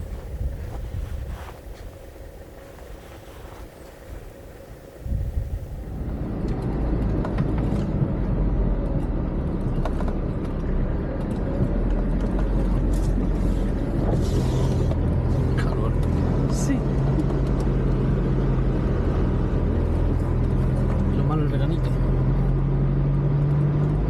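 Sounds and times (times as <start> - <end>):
engine low rumble: 0.0 - 24.0.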